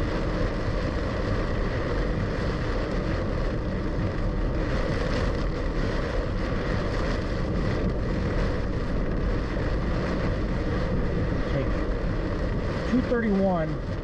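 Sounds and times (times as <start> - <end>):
rain on car: 0.0 - 14.0.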